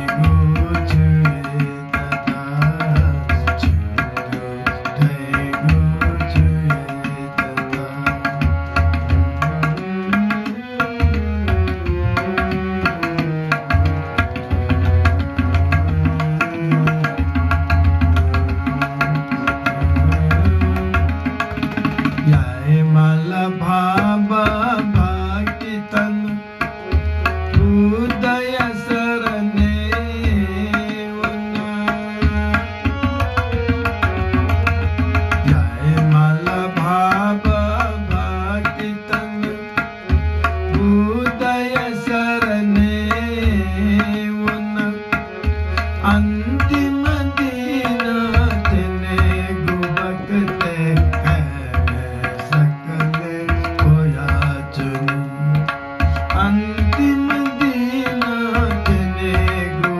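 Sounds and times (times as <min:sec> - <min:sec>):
man singing: 0:00.0 - 0:11.1, 0:15.5 - 0:17.4, 0:18.4 - 0:21.3, 0:22.2 - 0:26.8, 0:27.5 - 0:32.9, 0:35.4 - 0:59.9
tabla playing a rhythm: 0:00.0 - 0:59.9.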